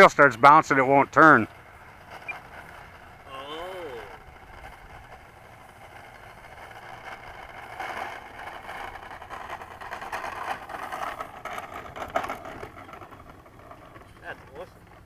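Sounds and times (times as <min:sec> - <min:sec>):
electric model airplane motor: 0:00.7 - 0:15.0.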